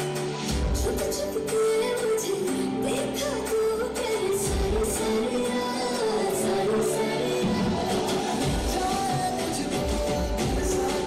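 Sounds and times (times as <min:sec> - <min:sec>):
pop song with singing: 0:00.0 - 0:11.0.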